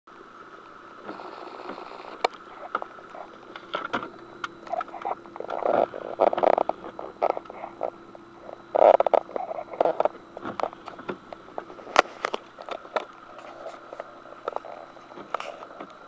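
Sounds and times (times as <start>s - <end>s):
car engine drone: 0.1s - 16.0s.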